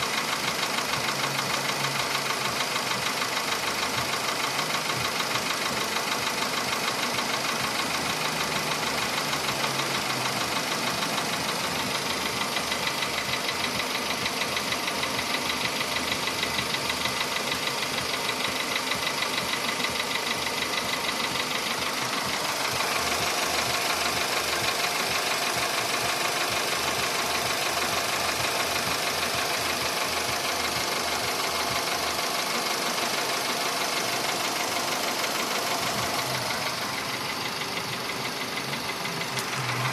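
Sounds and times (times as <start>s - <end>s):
car engine knocking: 0.0s - 39.9s.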